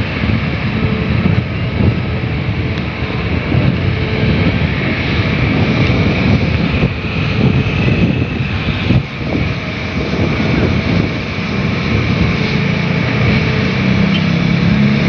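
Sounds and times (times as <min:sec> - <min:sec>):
excavator diesel engine running: 0:00.0 - 0:15.0
wind buffeting microphone: 0:00.0 - 0:15.0.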